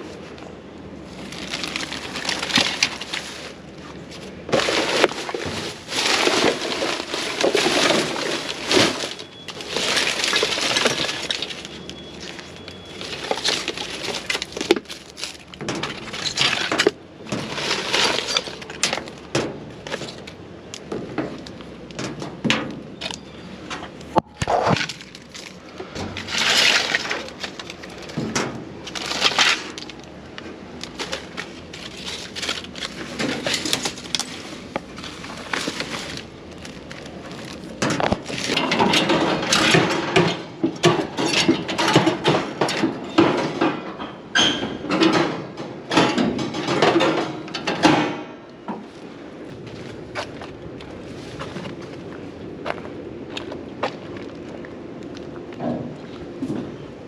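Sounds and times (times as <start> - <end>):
scrap metal crunching and clattering: 1.0 - 57.0.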